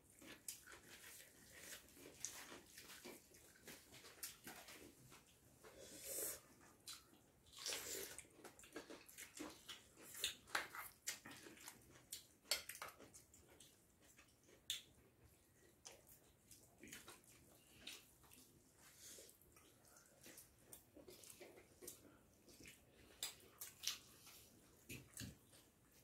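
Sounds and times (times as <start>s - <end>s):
people chewing food: 0.0s - 26.0s.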